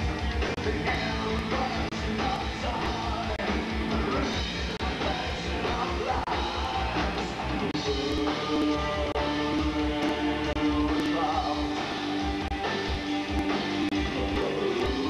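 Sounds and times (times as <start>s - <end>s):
person singing: 0.0s - 12.5s, 13.3s - 15.0s
drum beat: 0.0s - 15.0s
guitars: 0.0s - 15.0s
rock band playing live: 0.0s - 15.0s.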